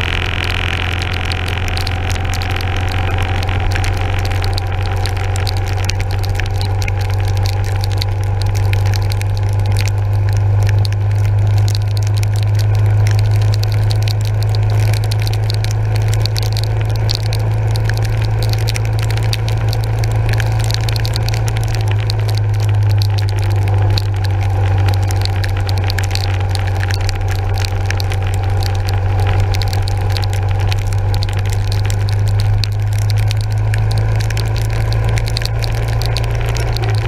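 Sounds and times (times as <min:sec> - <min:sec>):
raindrops crackling on camera: 0:00.0 - 0:37.0.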